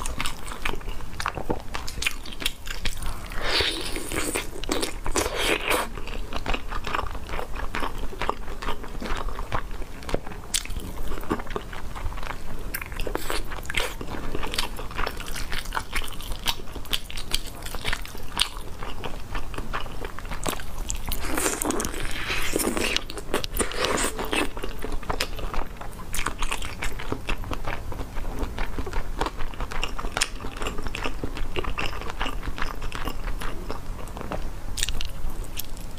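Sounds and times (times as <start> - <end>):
biting and wet chewing: 0.0 - 35.9.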